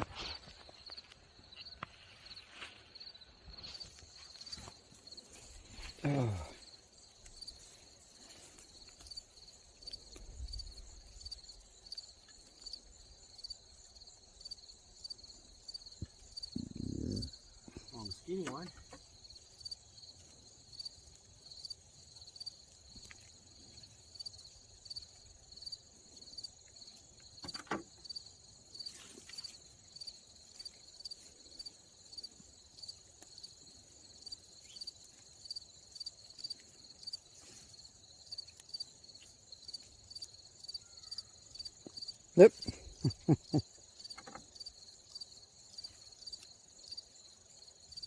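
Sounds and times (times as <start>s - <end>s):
continuous high insect trill: 0.0s - 48.0s
crickets chirping: 0.0s - 48.0s.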